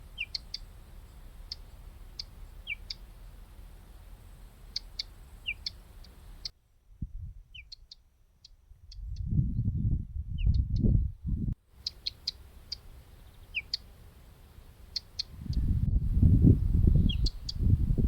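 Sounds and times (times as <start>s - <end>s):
songbird chirping: 0.0s - 6.6s, 7.4s - 11.0s, 11.6s - 18.0s.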